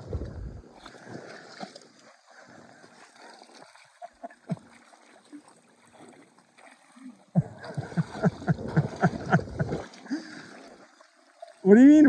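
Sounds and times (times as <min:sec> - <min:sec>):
water splashing and gurgling: 0:00.0 - 0:12.0.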